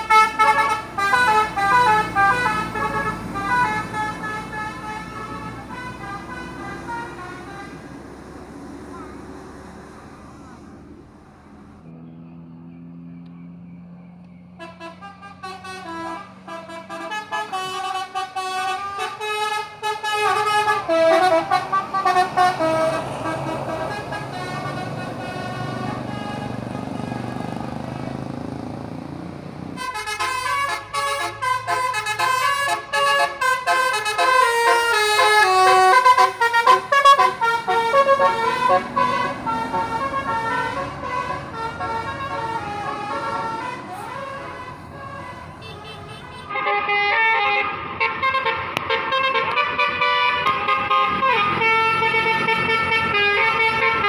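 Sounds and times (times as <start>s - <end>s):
bus musical horn tunes: 0.0s - 8.0s, 14.5s - 27.6s, 29.8s - 54.0s.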